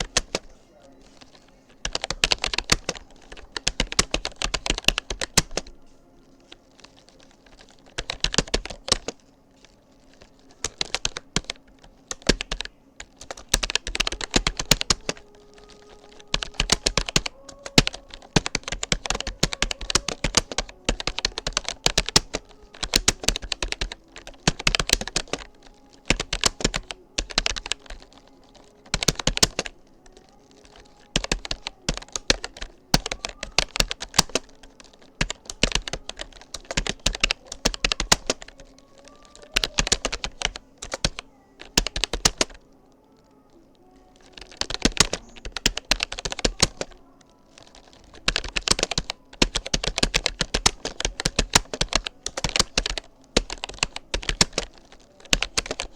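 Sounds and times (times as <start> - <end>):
computer keyboard typing: 0.0 - 55.9.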